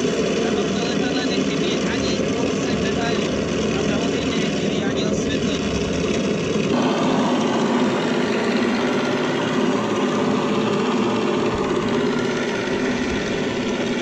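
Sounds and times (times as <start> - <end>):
model airplane engines idling: 0.0 - 14.0.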